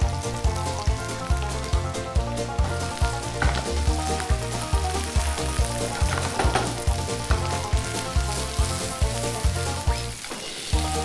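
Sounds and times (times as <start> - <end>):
background music with steady beat: 0.0 - 11.0
food sizzling in oil: 0.0 - 11.0.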